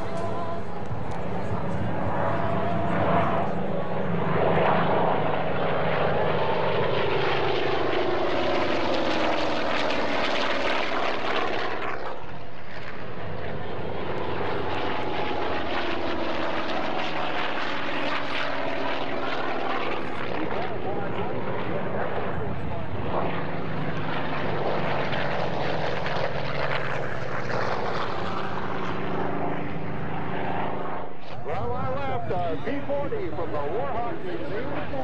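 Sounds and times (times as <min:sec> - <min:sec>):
propeller airplane flying past: 0:00.0 - 0:35.0.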